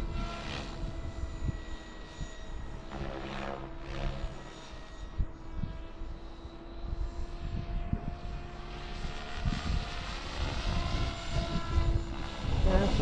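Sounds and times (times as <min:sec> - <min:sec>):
model helicopter rotor whine: 0:00.0 - 0:13.0
wind buffeting microphone: 0:00.0 - 0:13.0.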